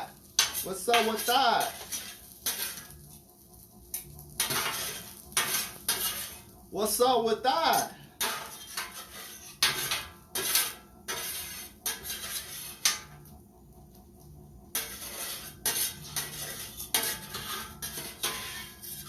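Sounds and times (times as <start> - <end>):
metal utensil scraping a pan: 0.0 - 3.2, 4.0 - 6.5, 7.8 - 13.2, 14.7 - 19.0.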